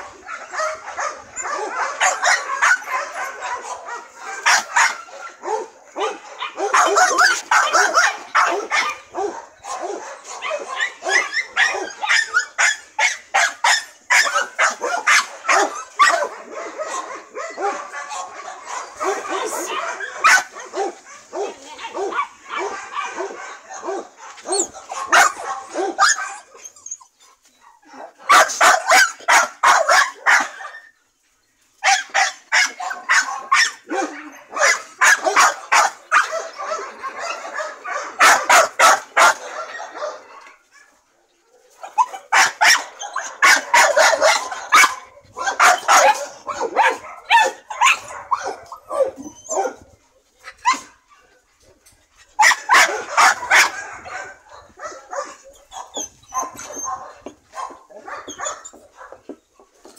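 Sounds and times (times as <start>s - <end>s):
dog barking and yipping: 0.0s - 30.9s, 31.8s - 59.9s.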